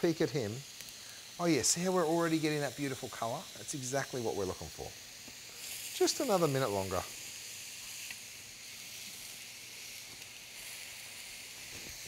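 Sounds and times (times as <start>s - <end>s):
fruit sizzling in a grill pan: 0.0s - 12.0s.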